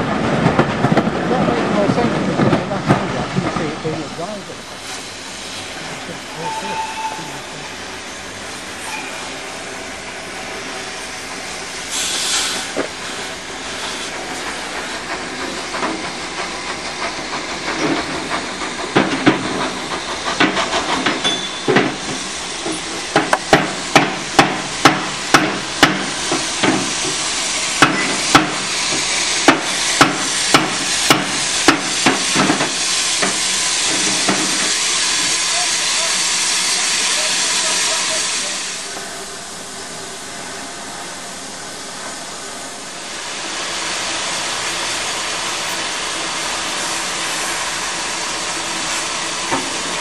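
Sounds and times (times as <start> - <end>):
steam hissing: 0.5 - 50.0.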